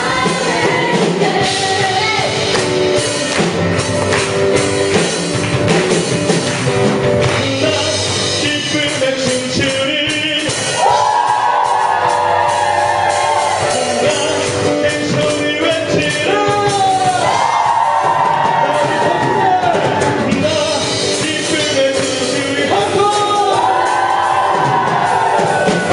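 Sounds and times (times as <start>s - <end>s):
worship band playing: 0.0s - 25.9s.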